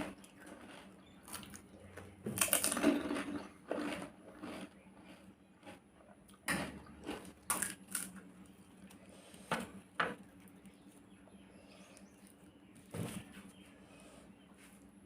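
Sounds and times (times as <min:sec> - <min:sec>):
food crunching: 0:00.0 - 0:12.9
faint chewing: 0:00.0 - 0:14.9.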